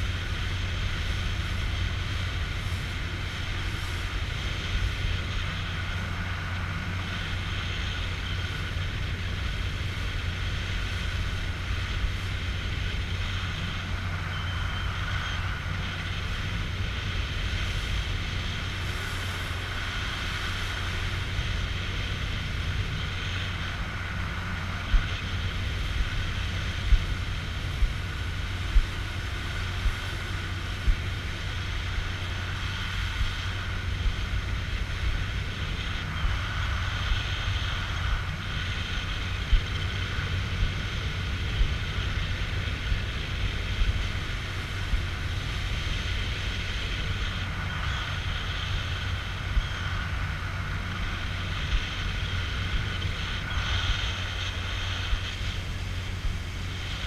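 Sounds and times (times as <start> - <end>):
motorboat engine running: 0.0 - 57.0
wind on microphone: 0.0 - 57.0.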